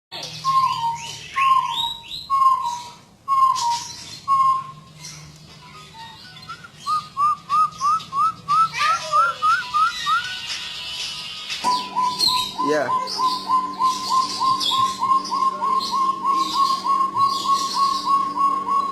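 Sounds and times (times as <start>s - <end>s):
high bird chirps: 0.2s - 18.9s
quail whistling calls: 0.4s - 5.2s, 5.8s - 18.9s.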